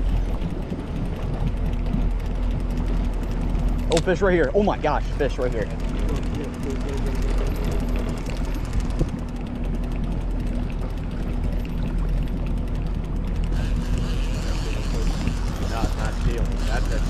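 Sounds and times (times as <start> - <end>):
boat motor humming: 0.0 - 17.0
fishing reel gears clicking: 0.0 - 17.0.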